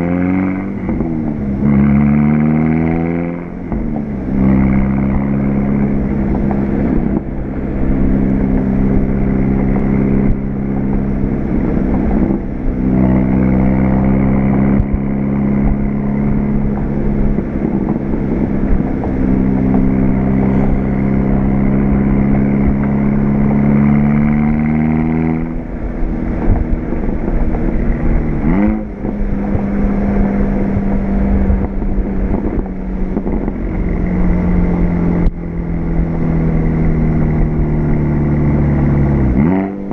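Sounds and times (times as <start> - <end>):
car engine exhaust note: 0.0 - 39.9.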